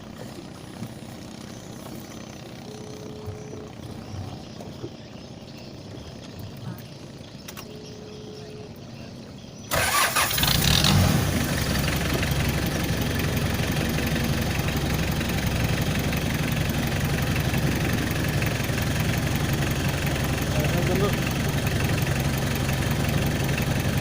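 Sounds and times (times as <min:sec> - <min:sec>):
van engine starting and idling: 0:00.0 - 0:24.0.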